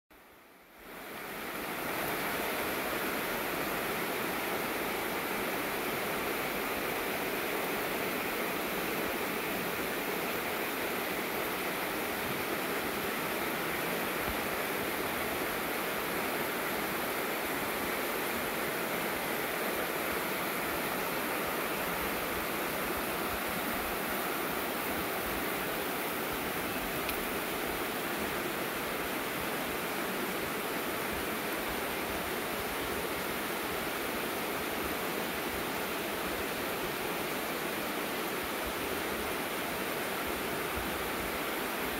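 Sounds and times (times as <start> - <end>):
river water rushing over stones: 0.2 - 41.9.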